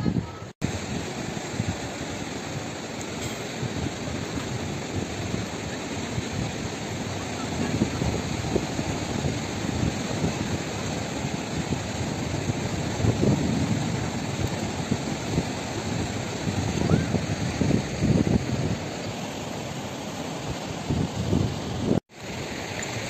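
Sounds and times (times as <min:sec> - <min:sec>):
fast-flowing river rushing: 0:00.6 - 0:23.0.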